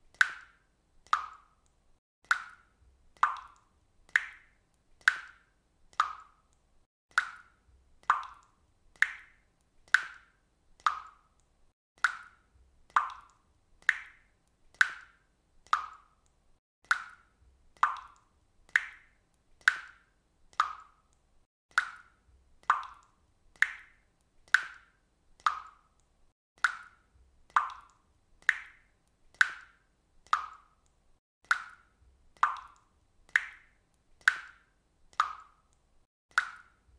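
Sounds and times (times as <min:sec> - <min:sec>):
water dripping from faucet: 0:00.0 - 0:36.9.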